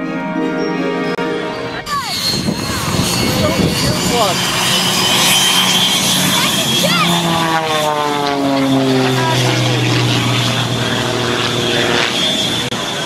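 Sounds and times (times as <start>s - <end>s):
jet engine whining: 0.7s - 13.0s.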